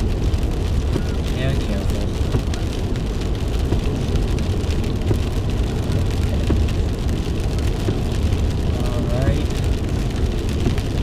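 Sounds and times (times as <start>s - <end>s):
car road and engine rumble: 0.0s - 11.0s
rain ticking on car: 0.0s - 11.0s.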